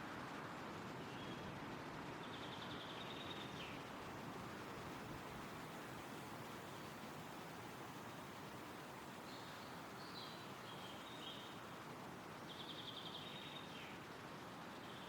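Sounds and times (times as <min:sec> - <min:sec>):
wind rustling through trees: 0:00.0 - 0:15.0
faint birdsong: 0:01.0 - 0:01.5, 0:02.2 - 0:15.0.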